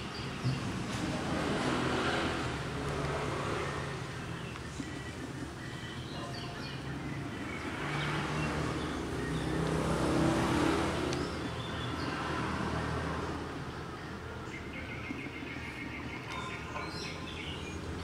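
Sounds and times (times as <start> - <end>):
vehicle engine drone: 0.0 - 18.0.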